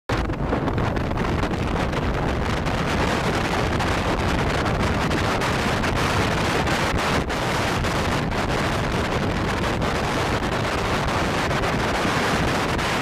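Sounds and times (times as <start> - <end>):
boat rushing through water: 0.1 - 13.0
wind buffeting microphone: 0.1 - 13.0.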